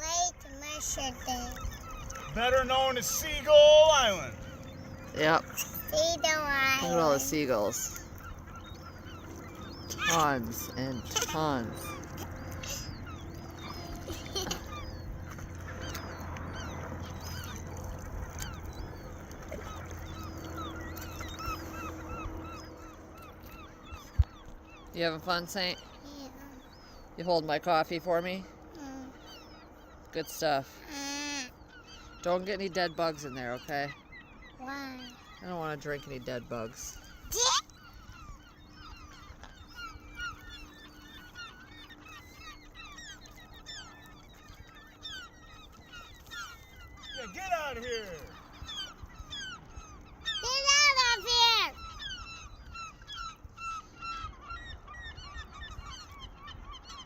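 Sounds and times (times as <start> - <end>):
steady low hum: 0.0 - 47.2
gulls calling: 0.0 - 57.0.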